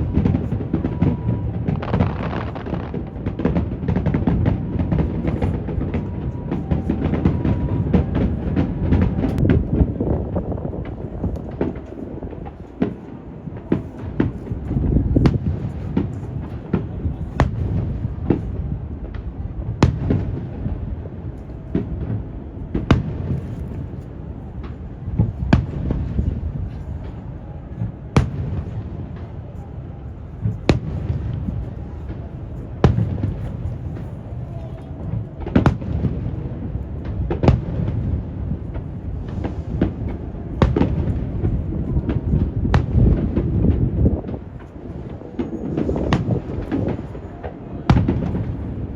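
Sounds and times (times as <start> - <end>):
fireworks bursting: 0.0 - 48.9
wind buffeting microphone: 0.0 - 48.9.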